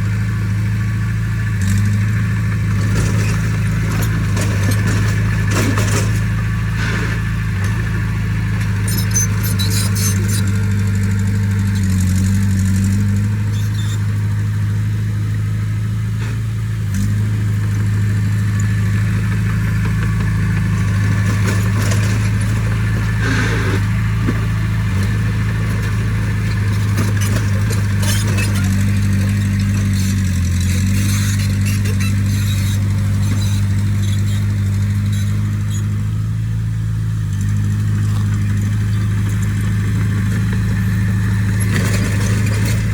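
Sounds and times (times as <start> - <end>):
diesel engine running under load: 0.0 - 42.9.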